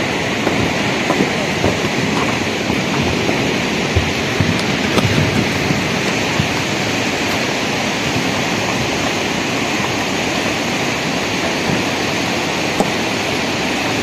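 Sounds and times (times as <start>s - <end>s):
rock and gravel sliding: 0.0s - 14.0s.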